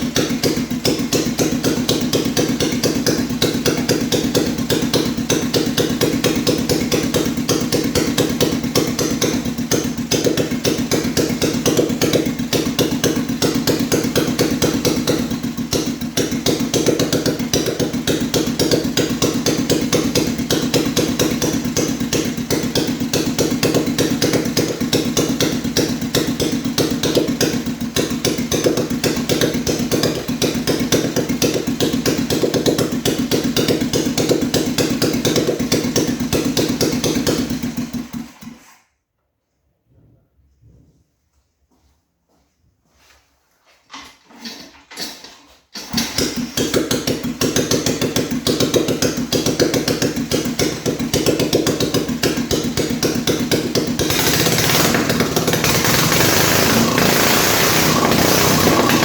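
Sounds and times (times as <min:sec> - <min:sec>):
single-cylinder engine running: 0:00.0 - 0:38.8, 0:45.8 - 0:59.0.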